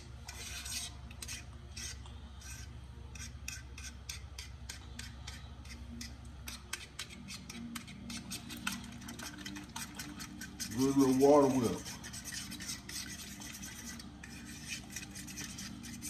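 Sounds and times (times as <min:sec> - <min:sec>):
fork beating eggs in bowl: 0:00.0 - 0:16.0.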